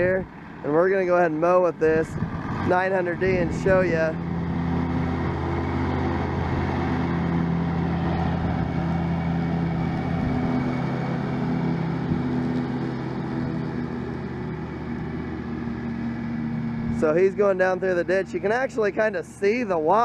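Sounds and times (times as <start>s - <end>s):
mower cutting wet grass: 0.0s - 20.0s
mower diesel engine running: 0.0s - 20.0s.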